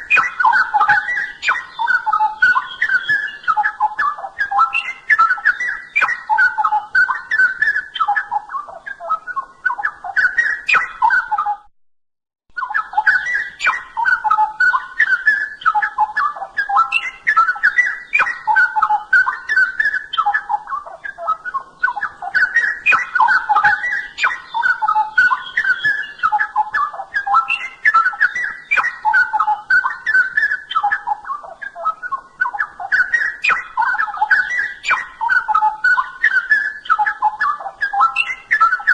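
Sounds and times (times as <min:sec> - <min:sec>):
bulbul warbling song: 0:00.0 - 0:11.7, 0:12.5 - 0:38.9.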